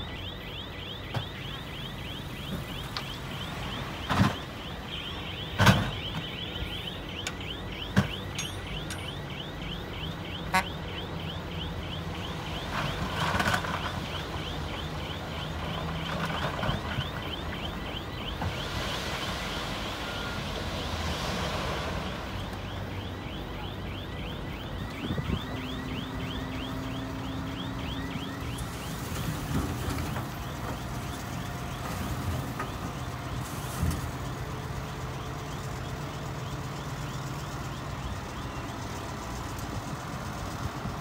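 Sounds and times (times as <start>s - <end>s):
fast warning alarm chirps: 0.0s - 20.8s, 22.0s - 40.5s.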